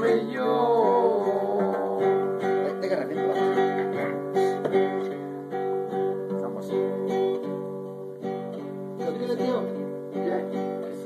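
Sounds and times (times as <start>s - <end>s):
classical guitar strumming: 0.0s - 11.0s.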